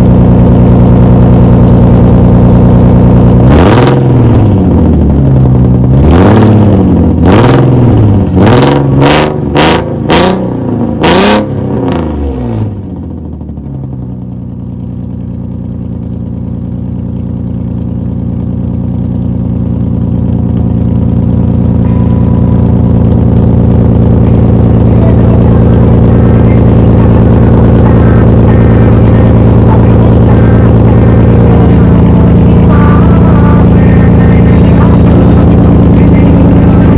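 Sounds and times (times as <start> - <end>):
car engine revving: 0.0 - 36.9
exhaust crack: 0.0 - 36.9.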